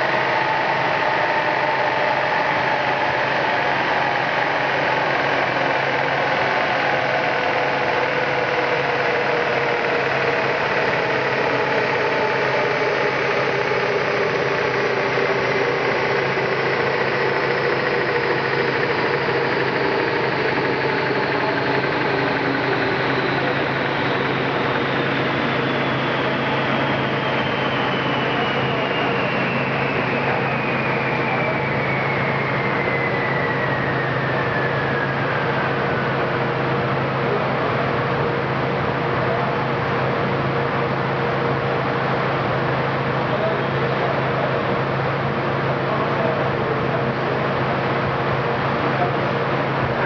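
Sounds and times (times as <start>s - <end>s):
car engine droning on dynamometer: 0.0s - 50.0s.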